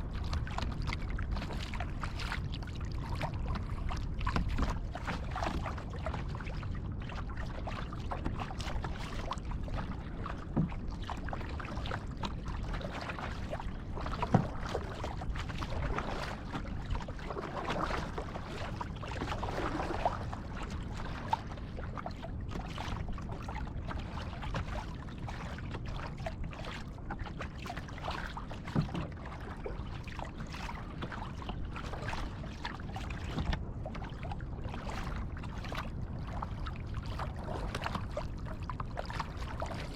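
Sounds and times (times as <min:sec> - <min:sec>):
water sloshing from paddle strokes: 0:00.0 - 0:39.9.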